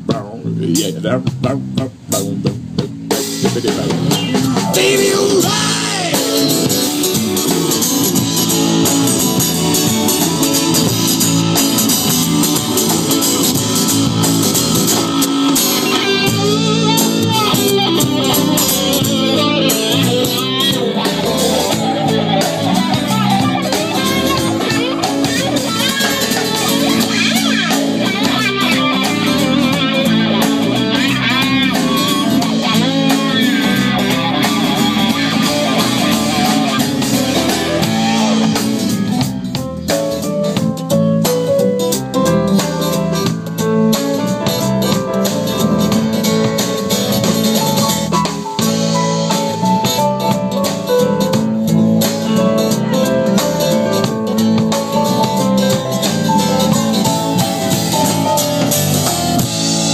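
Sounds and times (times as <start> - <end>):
bass: 0.0 - 59.9
drums: 0.0 - 59.9
electric guitar notes bending: 0.0 - 59.9.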